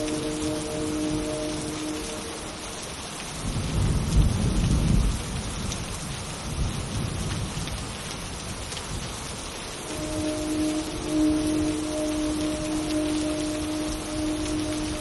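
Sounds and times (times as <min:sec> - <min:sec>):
low rumble of thunder: 0:00.0 - 0:15.0
steady rain: 0:00.0 - 0:15.0.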